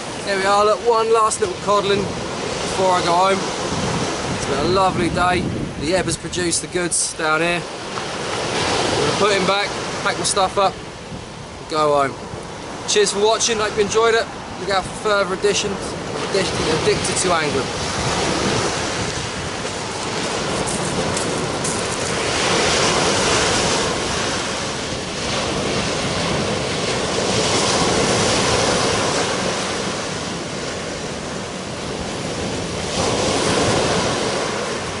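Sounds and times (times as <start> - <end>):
surf breaking on beach: 0.0 - 35.0.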